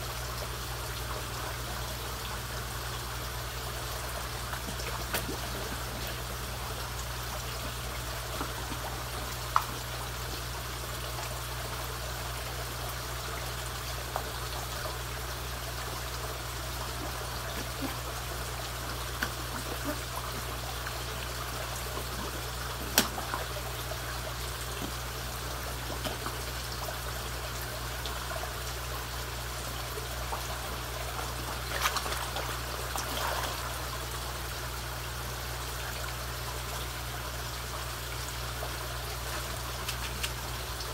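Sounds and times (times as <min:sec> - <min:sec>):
low steady hum: 0:00.0 - 0:40.9
water trickling into pond: 0:00.0 - 0:40.9.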